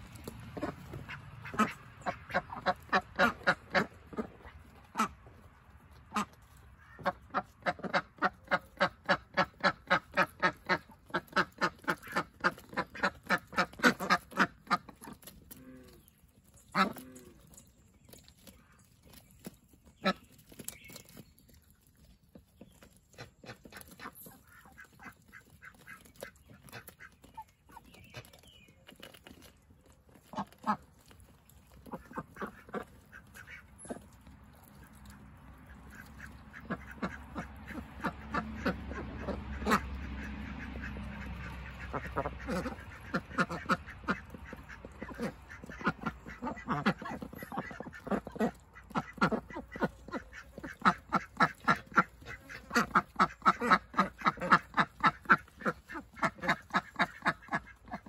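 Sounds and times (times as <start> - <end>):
ducks quacking: 0.0 - 58.0.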